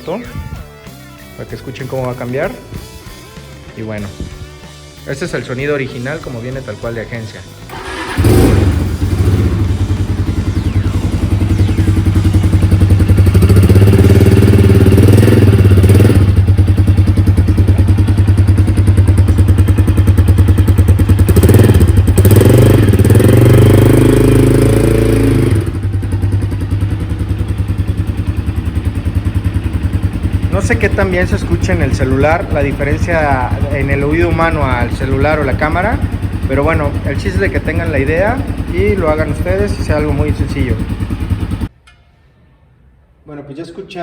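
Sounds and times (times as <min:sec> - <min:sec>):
motorcycle engine idling and revving: 0:05.4 - 0:41.7.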